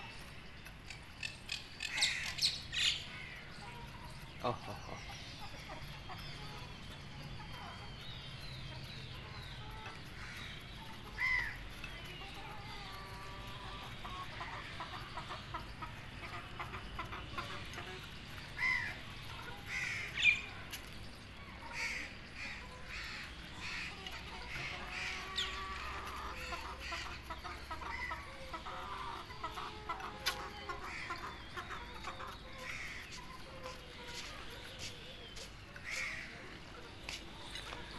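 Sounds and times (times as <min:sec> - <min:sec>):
chicks calling and clucking: 0:00.0 - 0:37.9.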